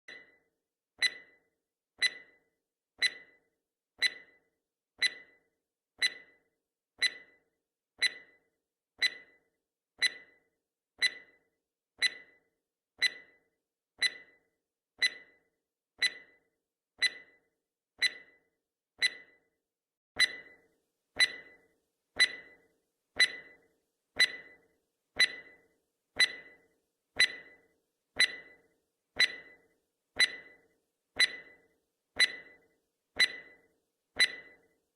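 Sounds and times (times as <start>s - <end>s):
timer ticking: 0.1s - 0.4s, 1.0s - 15.4s, 16.0s - 19.5s, 20.2s - 34.8s.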